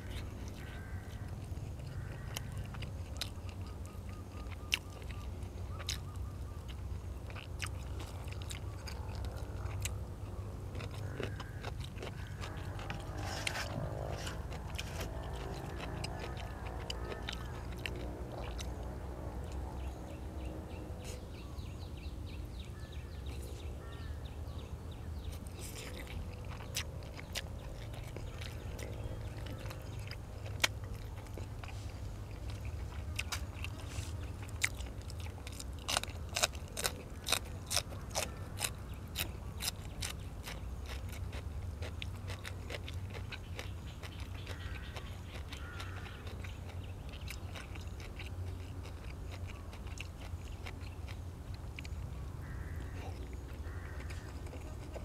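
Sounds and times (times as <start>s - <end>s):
person chewing crunchy food: 0.0s - 19.9s, 25.1s - 55.0s
steady low hum: 0.0s - 55.0s.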